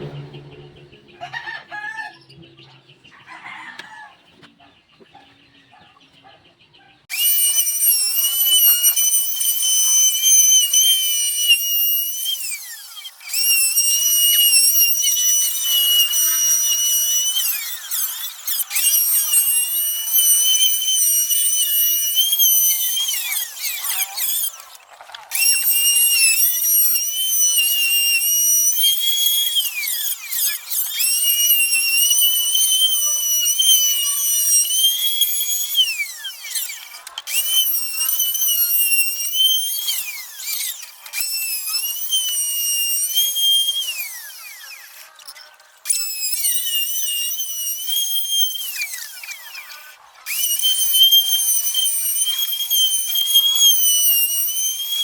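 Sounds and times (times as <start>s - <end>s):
power tool motor whining: 7.1s - 55.0s.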